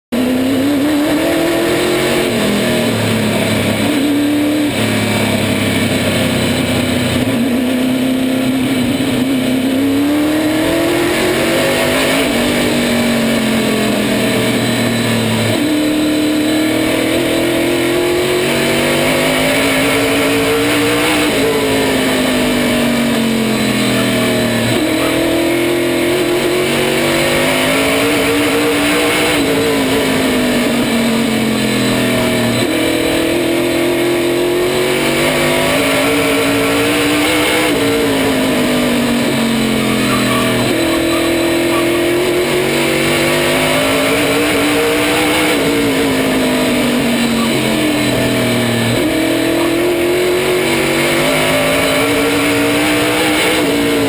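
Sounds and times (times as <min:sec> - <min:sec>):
race car engine revving: 0:00.1 - 0:54.0.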